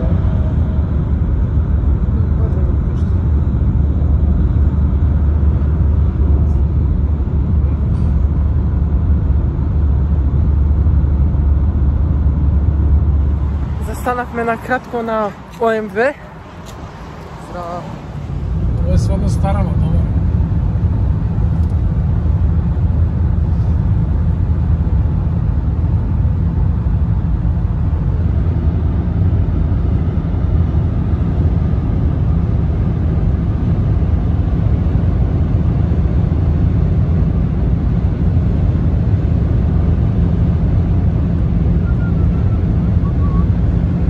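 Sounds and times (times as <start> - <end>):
car cabin road and engine rumble: 0.0 - 44.0.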